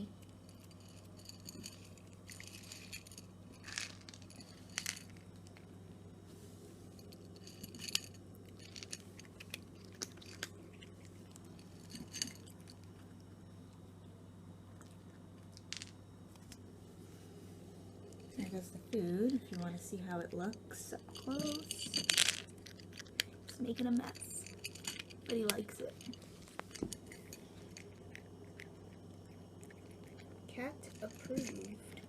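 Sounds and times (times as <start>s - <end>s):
faint low hum: 0.0s - 32.0s
cat crunching dry kibble: 0.1s - 6.1s, 6.7s - 13.9s, 14.7s - 16.7s, 20.6s - 32.0s.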